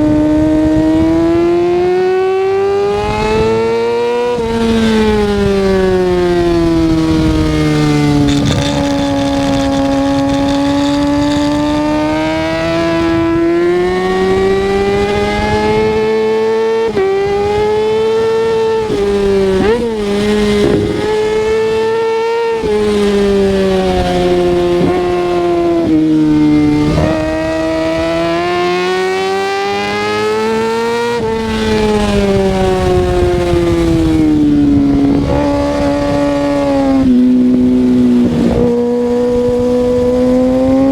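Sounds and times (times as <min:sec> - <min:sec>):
gear change pitch jumps: 0:00.0 - 0:40.9
motorcycle engine revving: 0:00.0 - 0:40.9.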